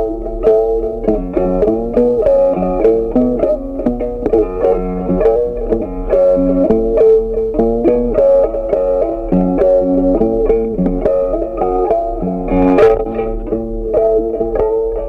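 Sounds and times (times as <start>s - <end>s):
plucked string instrument notes: 0.0s - 15.0s.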